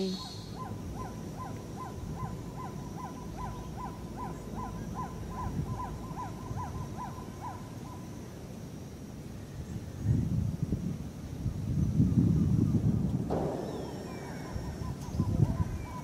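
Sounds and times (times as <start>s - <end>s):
faint high hum: 0.0s - 16.0s
low wind rumble: 0.0s - 16.0s.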